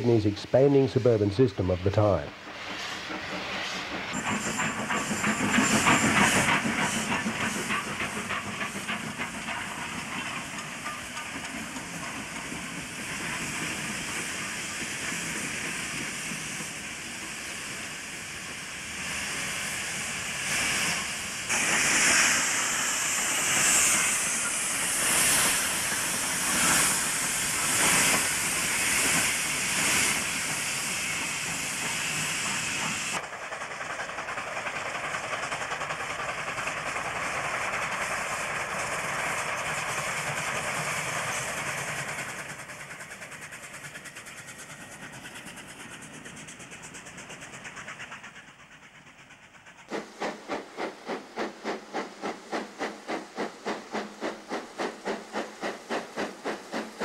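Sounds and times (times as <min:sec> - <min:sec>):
steam locomotive hissing steam: 0:00.0 - 0:57.0.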